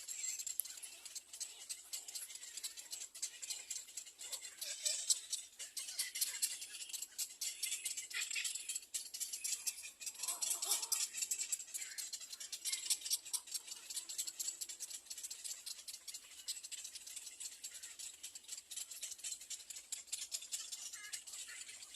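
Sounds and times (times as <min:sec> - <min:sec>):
nestlings begging chatter: 0:00.0 - 0:21.9.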